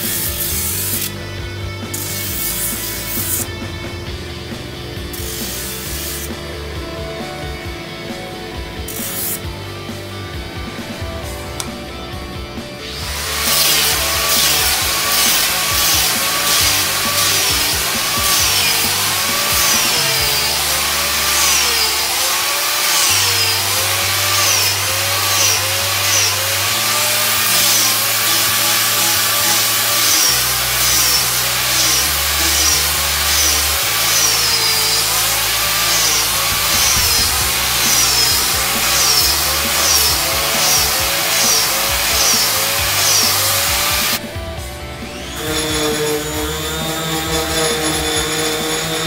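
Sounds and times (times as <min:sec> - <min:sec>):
background music with bass: 0:00.0 - 0:49.0
power tool grinding wood: 0:00.0 - 0:49.0.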